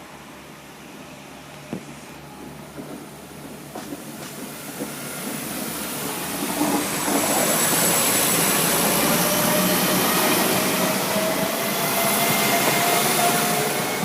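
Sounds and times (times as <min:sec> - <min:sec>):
train rushing past: 0:01.3 - 0:14.0.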